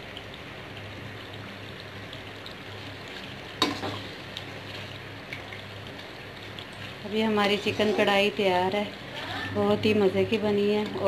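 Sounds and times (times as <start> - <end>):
gravy sizzling in pan: 0.0 - 11.0.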